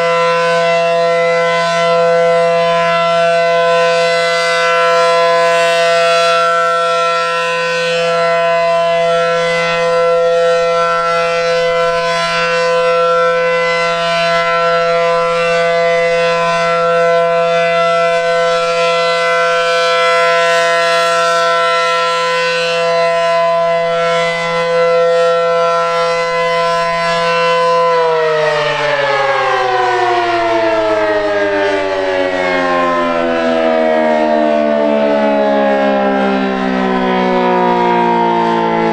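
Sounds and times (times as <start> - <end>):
warning siren: 0.0 - 38.9.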